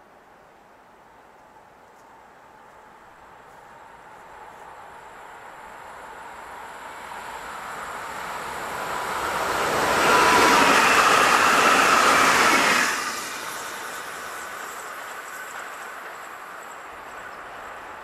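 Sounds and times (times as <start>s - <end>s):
electric train passing: 2.9s - 18.0s.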